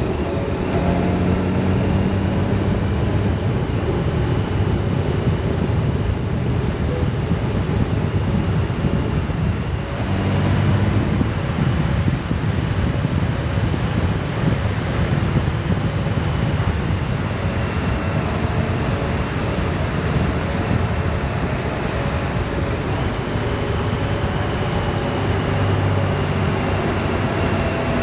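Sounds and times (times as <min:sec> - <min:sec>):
motorcycle engine cruising: 0:00.0 - 0:28.0
wind rush over microphone: 0:00.0 - 0:28.0.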